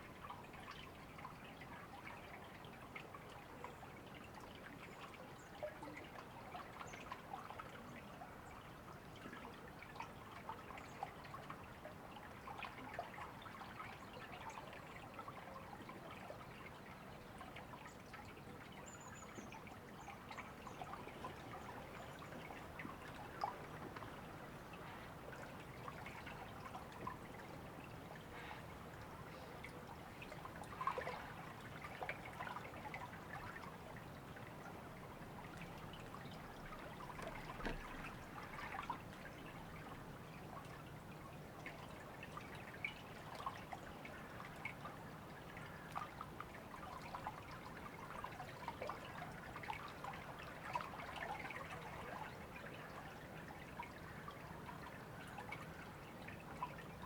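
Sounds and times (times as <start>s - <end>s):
river water babbling: 9.7s - 57.0s.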